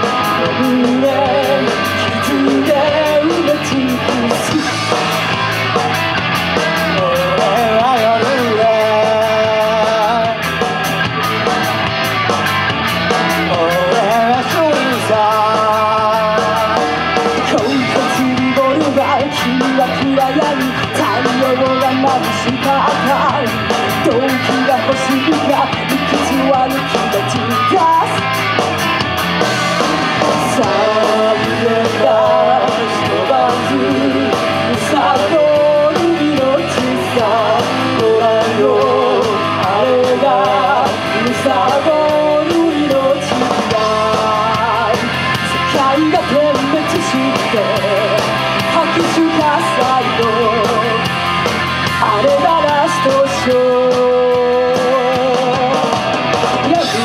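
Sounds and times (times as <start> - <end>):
person singing: 0.0 - 5.5, 6.6 - 10.6, 13.1 - 28.5, 30.0 - 57.0
rock band playing live: 0.0 - 57.0.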